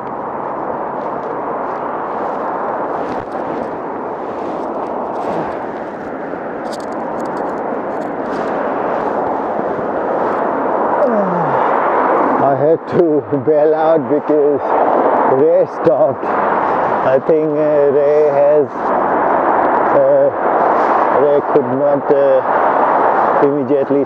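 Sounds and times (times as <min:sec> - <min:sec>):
highway traffic roar: 0:00.0 - 0:24.0
wind buffeting microphone: 0:00.0 - 0:24.0.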